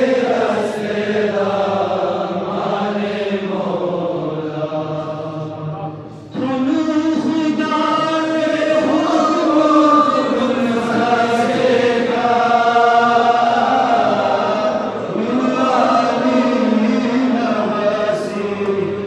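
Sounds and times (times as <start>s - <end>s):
voices chanting in unison: 0.0s - 19.0s.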